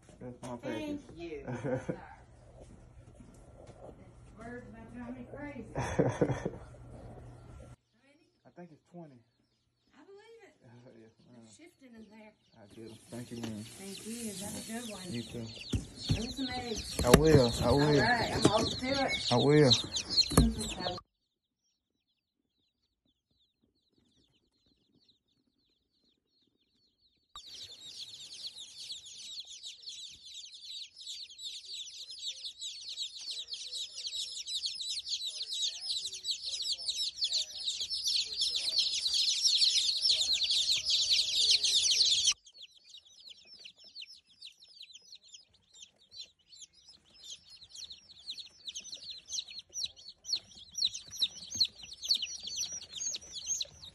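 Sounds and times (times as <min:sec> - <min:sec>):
chicks peeping: 0:00.0 - 0:21.0, 0:22.0 - 0:53.9.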